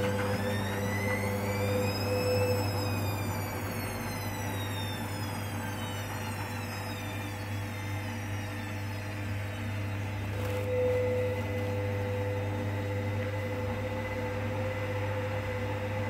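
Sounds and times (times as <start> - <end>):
washing machine motor whining: 0.0 - 16.0.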